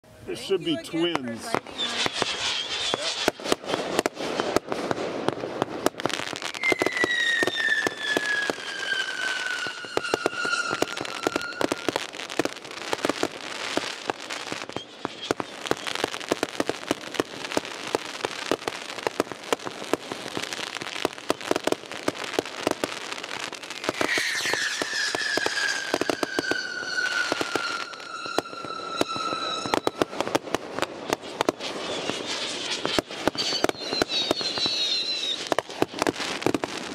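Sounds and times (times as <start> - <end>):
fireworks crackling and popping: 0.0 - 36.9
firework whistles falling in pitch: 1.5 - 4.7, 6.0 - 36.9.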